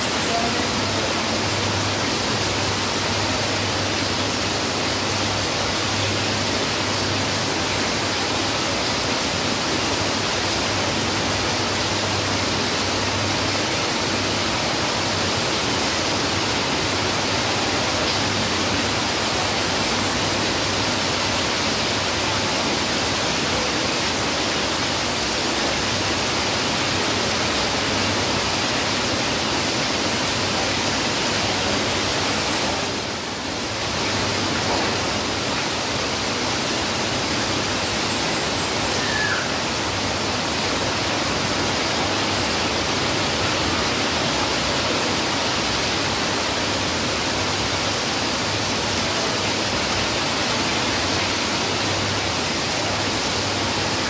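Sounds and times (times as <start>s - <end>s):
heavy rain on foliage and roofs: 0.0s - 54.0s
rainwater pouring off roof: 0.0s - 54.0s.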